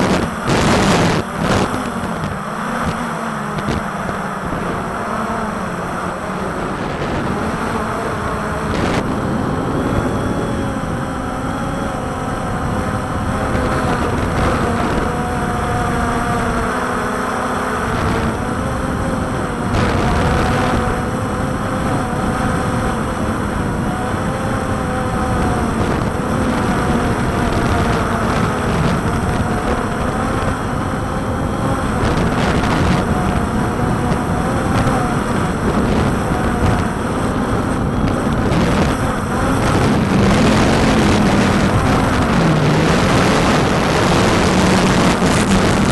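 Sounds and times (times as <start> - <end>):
drone motors whining: 0.0 - 45.9
wind rumble on microphone: 0.0 - 45.9.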